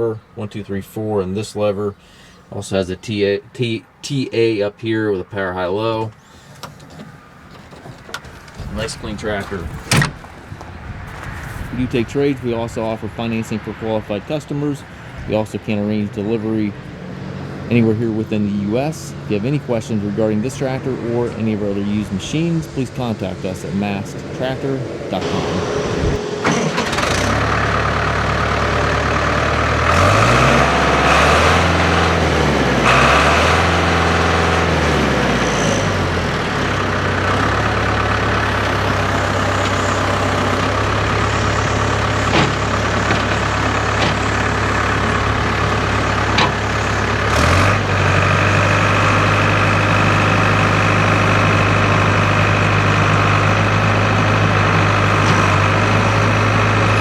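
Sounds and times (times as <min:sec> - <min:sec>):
diesel tractor engine revving and idling: 0:06.1 - 0:57.0.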